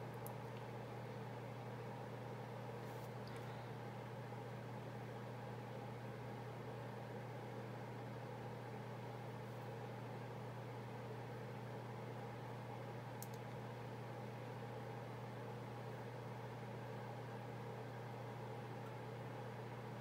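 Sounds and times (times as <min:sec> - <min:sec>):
motor or fan humming: 0:00.0 - 0:20.0.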